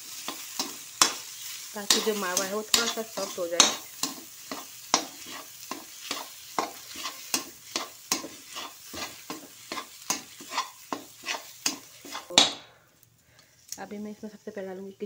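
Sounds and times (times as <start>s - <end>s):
faint sizzle: 0.0s - 15.0s
metal spoon scraping a metal pan: 0.2s - 12.5s.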